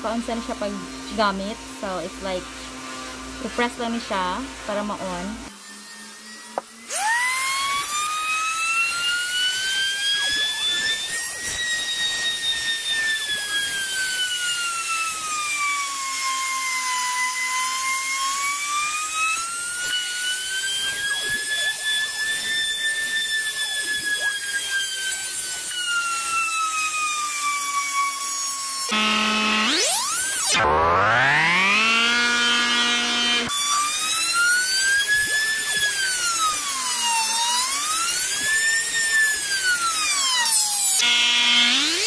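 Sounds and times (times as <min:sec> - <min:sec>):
electric sander whining: 0:00.0 - 0:42.0.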